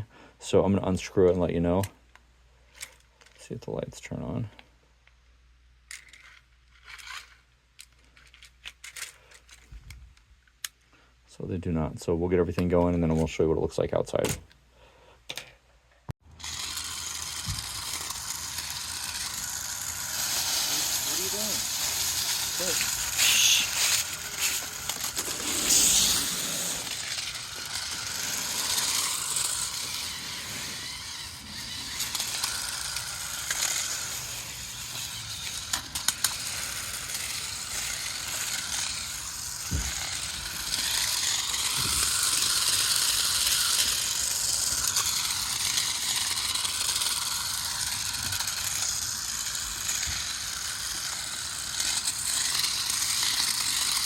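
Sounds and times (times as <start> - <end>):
toy car motors whirring and rattling: 0.9 - 5.2, 5.8 - 10.8, 16.2 - 54.0.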